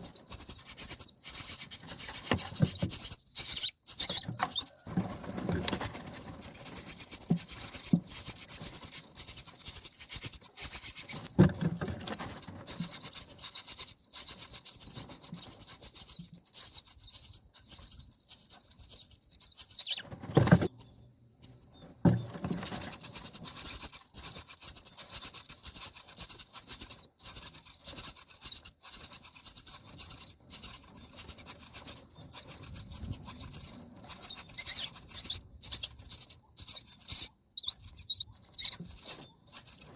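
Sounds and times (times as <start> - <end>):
nestlings begging calls: 0.0 - 39.9.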